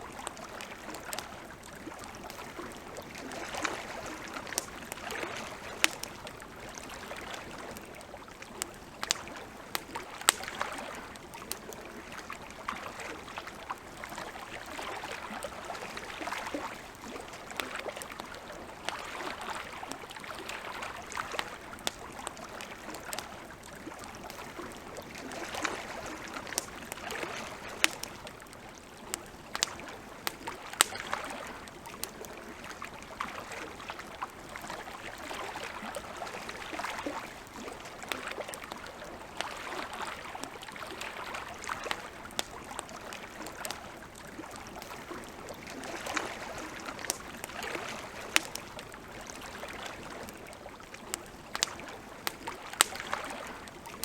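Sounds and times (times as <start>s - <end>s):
campfire crackling and popping: 0.0s - 54.0s
waves lapping at shore: 0.0s - 54.0s.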